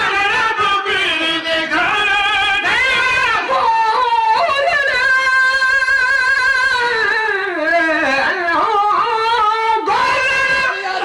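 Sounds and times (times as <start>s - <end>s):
man singing a lamenting line: 0.0s - 11.0s.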